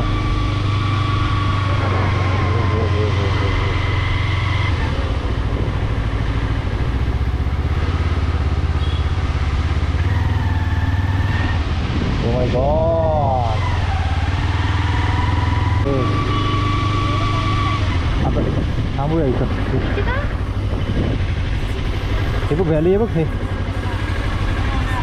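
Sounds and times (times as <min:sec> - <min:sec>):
motorcycle engine running: 0:00.0 - 0:25.0
rushing road noise: 0:00.0 - 0:25.0.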